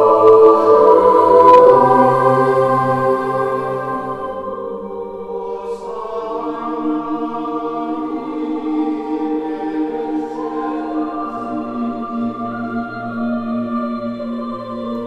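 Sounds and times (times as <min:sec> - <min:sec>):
choir chanting: 0:00.0 - 0:15.0.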